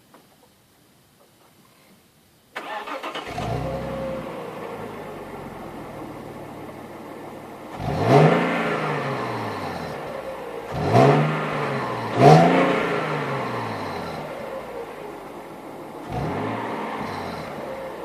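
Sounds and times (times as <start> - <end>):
car engine idling and revving: 2.8 - 18.0.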